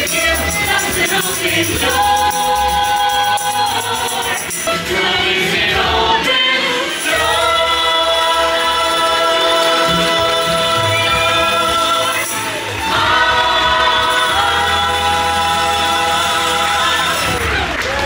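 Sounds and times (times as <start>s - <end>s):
choir singing long held notes: 0.0s - 17.7s.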